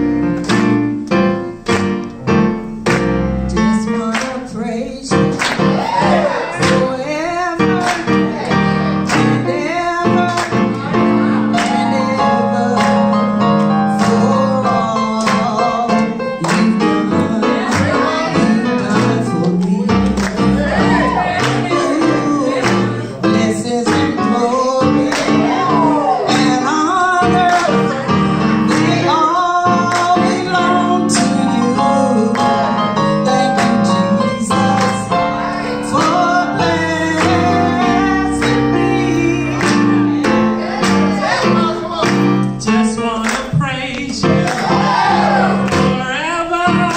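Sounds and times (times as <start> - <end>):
instrumental backing with steady beat: 0.0 - 46.9
gospel singing: 2.9 - 46.9.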